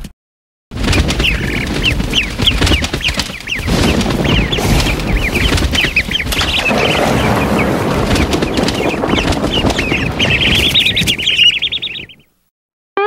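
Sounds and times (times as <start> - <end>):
rushing background noise: 0.8 - 12.2
baby birds cheeping: 0.8 - 12.3.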